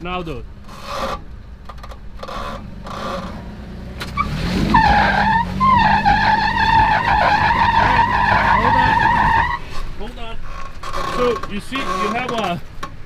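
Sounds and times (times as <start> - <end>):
tire squealing against rock: 0.6 - 13.0.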